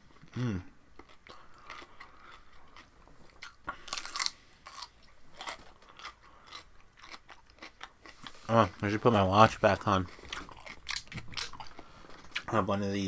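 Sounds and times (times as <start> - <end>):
person crunching raw vegetables: 0.1 - 12.5.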